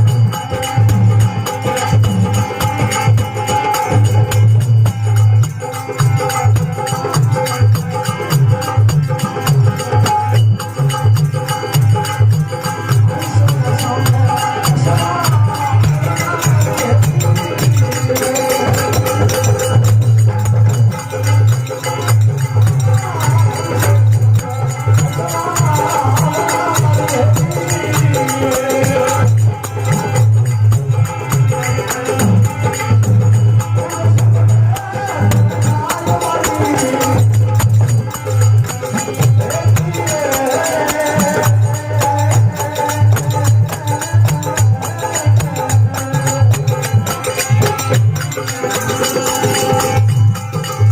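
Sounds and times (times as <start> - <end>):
folk devotional music: 0.0 - 50.9
hand drum rhythm: 0.0 - 50.9
jingling percussion: 0.0 - 50.9.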